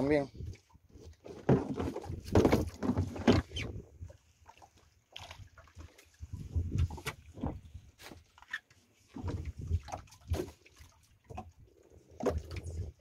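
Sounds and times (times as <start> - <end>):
small waves lapping against boat hull: 0.0 - 13.0.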